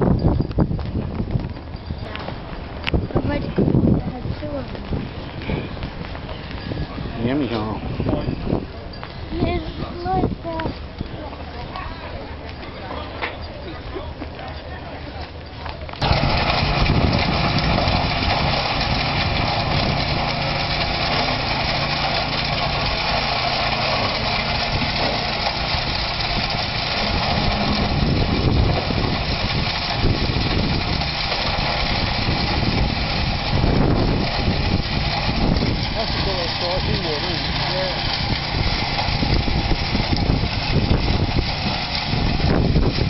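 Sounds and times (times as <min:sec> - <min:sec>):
wood chipper running: 0:02.0 - 0:43.0.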